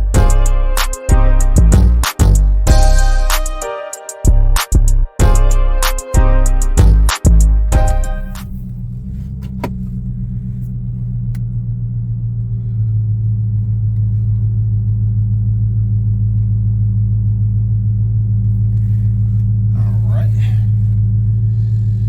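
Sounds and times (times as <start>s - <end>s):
car engine rumbling: 0.0s - 0.9s, 4.4s - 22.0s.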